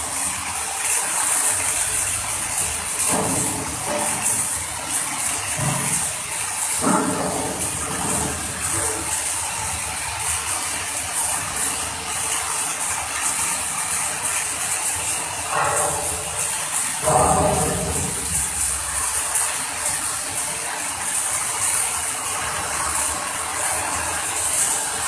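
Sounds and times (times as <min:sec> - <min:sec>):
welding arc crackling hiss: 0:00.0 - 0:25.0.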